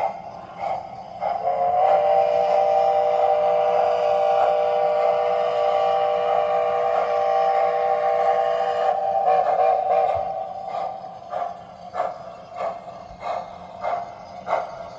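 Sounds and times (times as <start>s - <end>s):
model train steam whistle: 0.0s - 14.9s.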